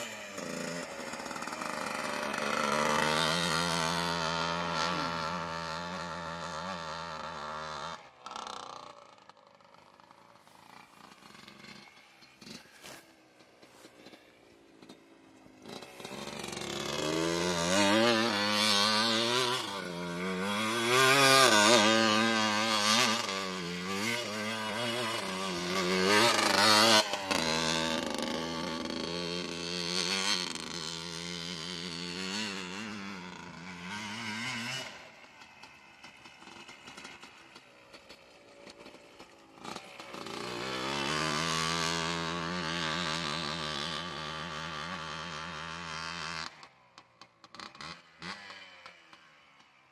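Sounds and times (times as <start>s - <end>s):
two-stroke engine revving: 0.0s - 49.9s.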